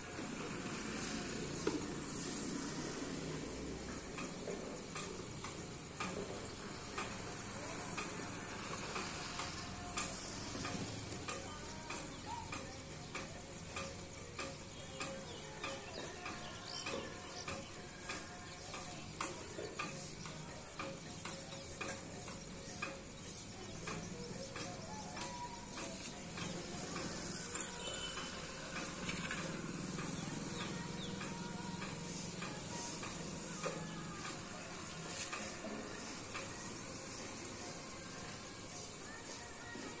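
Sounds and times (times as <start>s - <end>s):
faint ticks and clicks: 3.8s - 40.0s.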